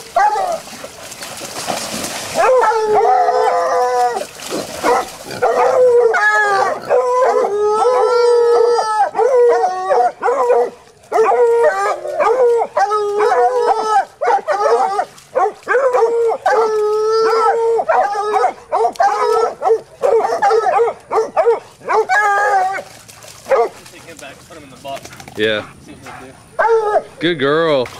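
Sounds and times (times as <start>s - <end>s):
hounds baying and barking: 0.0s - 27.9s.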